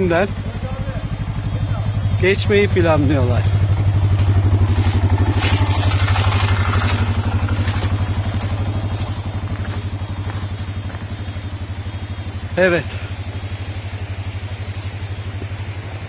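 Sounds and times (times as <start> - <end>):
atv engine idling: 0.0 - 16.0.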